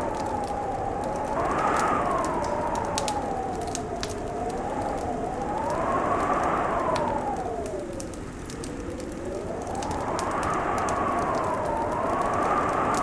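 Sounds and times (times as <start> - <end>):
wind howling: 0.0 - 13.0
wood fire crackling and popping: 0.0 - 13.0.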